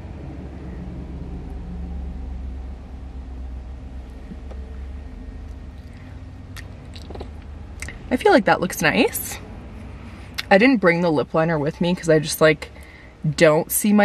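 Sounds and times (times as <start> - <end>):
car engine idling: 0.0 - 13.7.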